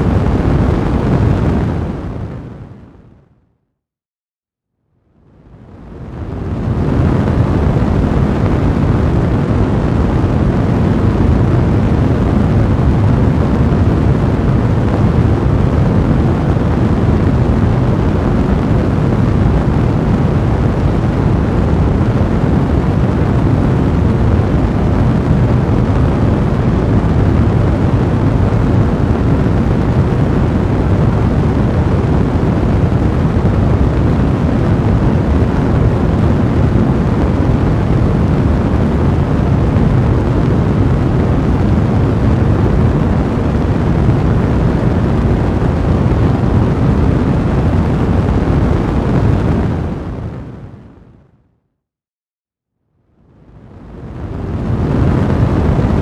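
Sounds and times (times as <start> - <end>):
fire burning: 5.5 - 50.6.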